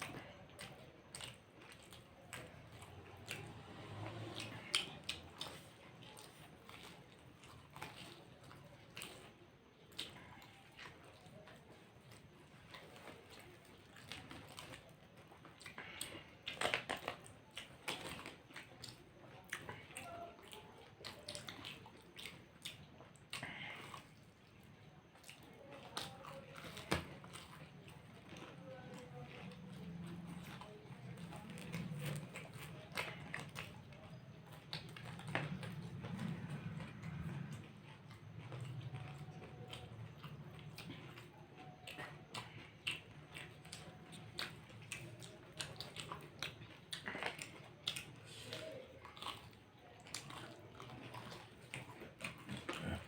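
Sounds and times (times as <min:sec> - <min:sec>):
low steady hum: 0:00.0 - 0:53.0
people chewing crunchy snacks: 0:00.0 - 0:53.0.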